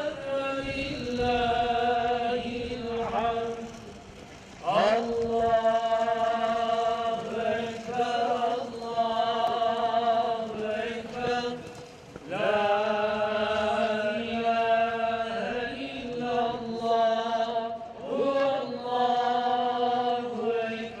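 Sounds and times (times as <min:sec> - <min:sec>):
man chanting religious recitation: 0:00.0 - 0:21.0.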